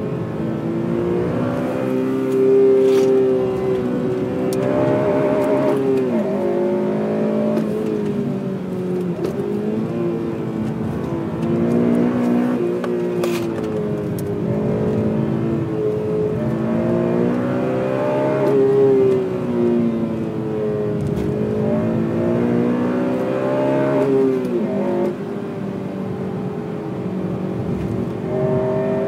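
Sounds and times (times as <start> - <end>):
car engine revving hard: 0.1 - 8.2, 9.1 - 25.2, 27.0 - 29.0.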